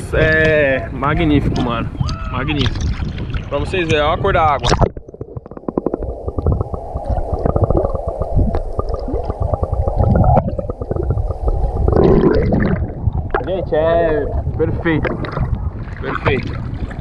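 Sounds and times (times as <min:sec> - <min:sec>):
underwater gurgling and bubbles: 0:01.6 - 0:17.0.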